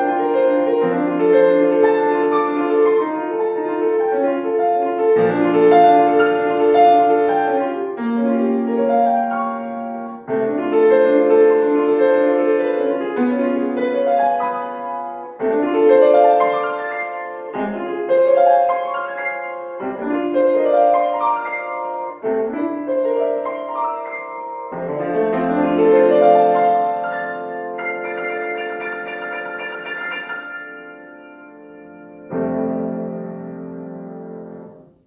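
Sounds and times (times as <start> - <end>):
classical piano piece: 0.0 - 35.0.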